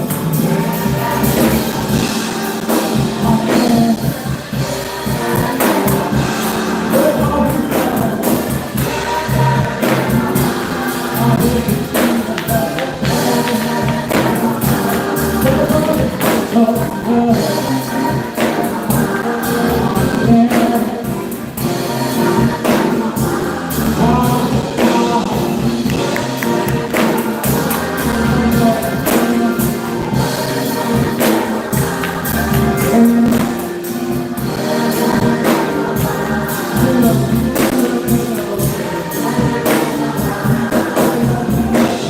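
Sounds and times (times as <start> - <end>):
band with drums: 0.0 - 42.0
choir singing gospel: 0.0 - 42.0.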